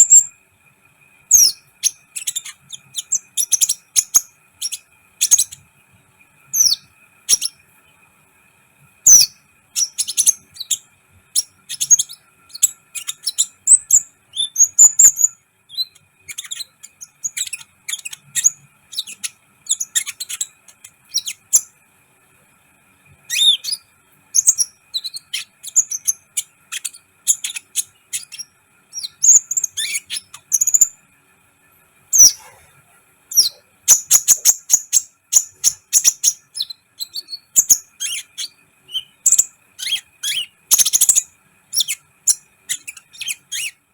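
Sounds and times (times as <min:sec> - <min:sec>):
bird chirping and trilling: 0:01.3 - 0:05.7, 0:06.6 - 0:07.6, 0:09.0 - 0:21.7, 0:23.3 - 0:31.0, 0:32.1 - 0:32.7, 0:33.3 - 0:43.9.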